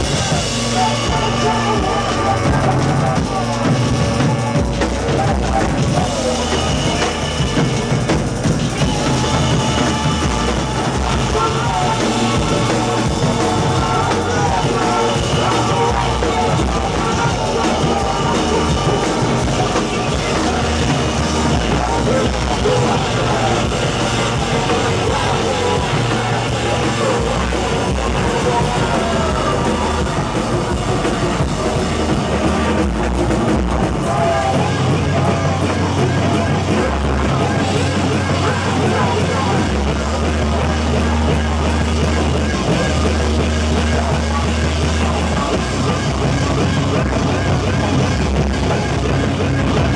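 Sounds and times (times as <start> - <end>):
live rock band playing: 0.0 - 49.9
yelled vocals: 0.0 - 49.9.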